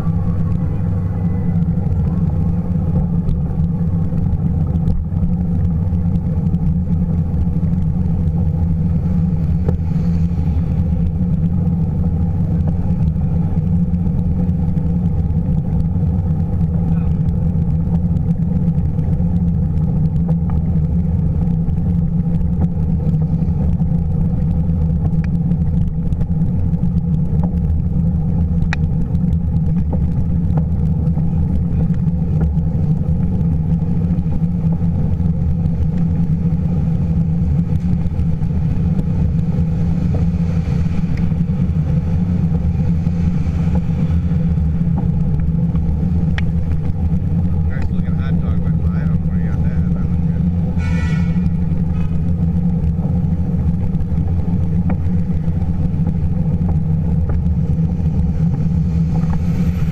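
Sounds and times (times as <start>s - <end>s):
city traffic: 0.0s - 59.9s
road vibration: 0.0s - 59.9s
wind rumble: 0.0s - 59.9s.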